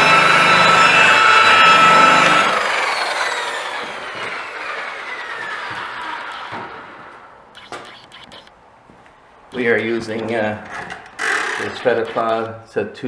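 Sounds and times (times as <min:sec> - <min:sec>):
rotary polisher whining: 0:00.0 - 0:08.4, 0:09.5 - 0:12.6.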